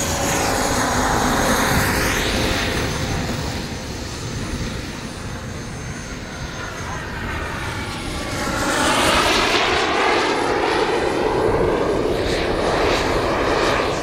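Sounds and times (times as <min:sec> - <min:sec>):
model jet turbine running: 0:00.0 - 0:14.0.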